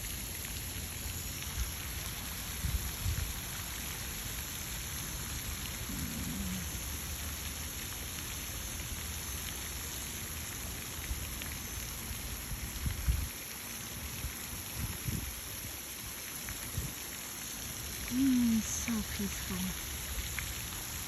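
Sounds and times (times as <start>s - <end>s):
fountain spray splashing on water: 0.0s - 21.0s.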